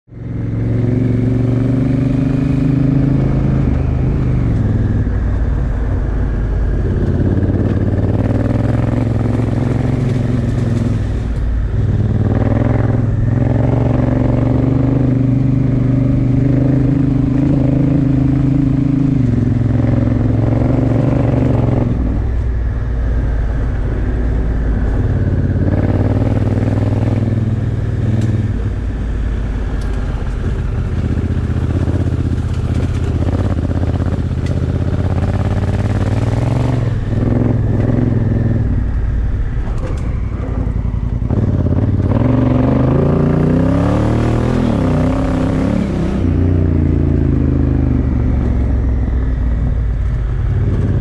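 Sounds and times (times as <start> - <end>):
motorcycle engine revving: 0.1 - 51.0.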